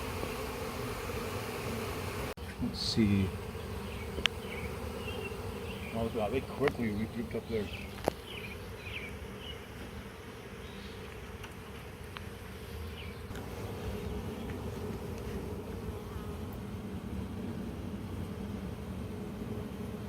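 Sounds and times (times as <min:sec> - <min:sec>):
bee swarm humming: 0:00.0 - 0:20.0.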